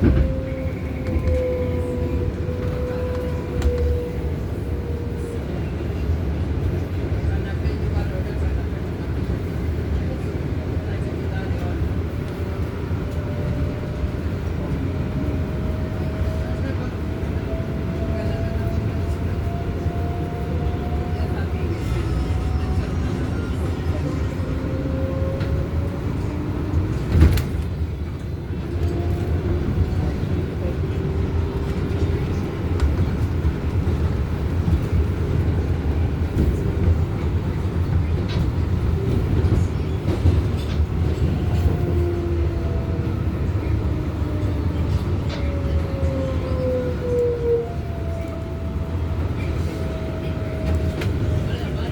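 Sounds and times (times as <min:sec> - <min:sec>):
wheels rumbling on rail: 0:00.0 - 0:51.9.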